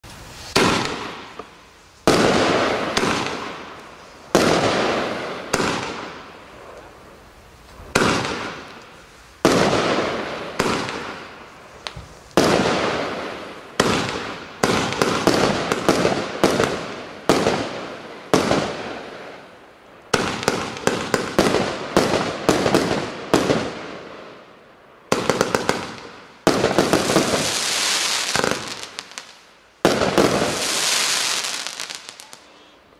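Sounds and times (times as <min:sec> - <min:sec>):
fireworks bangs with crackle: 0:00.1 - 0:24.4, 0:25.0 - 0:32.6.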